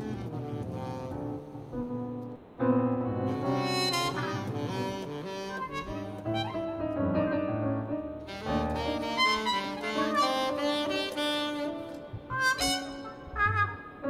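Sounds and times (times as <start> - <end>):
saxophone phrases: 0.0 - 2.4, 3.2 - 7.0, 8.0 - 14.0
keyboard: 0.0 - 14.0.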